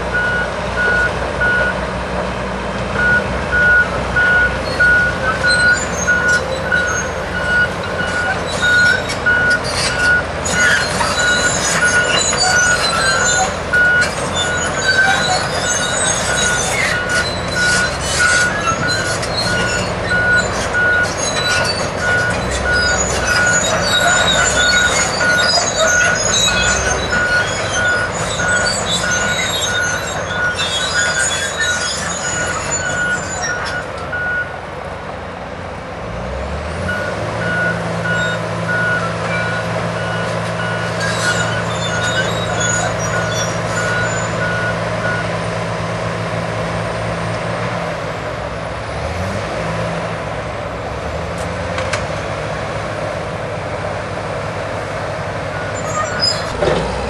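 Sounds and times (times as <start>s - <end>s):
heavy equipment diesel engines: 0.0s - 57.0s.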